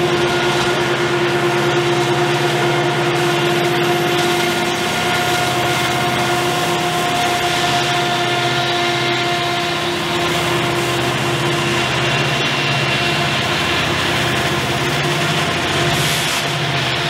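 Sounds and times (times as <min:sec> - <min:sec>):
diesel locomotives working hard: 0:00.0 - 0:17.0
steady whine: 0:00.0 - 0:17.0.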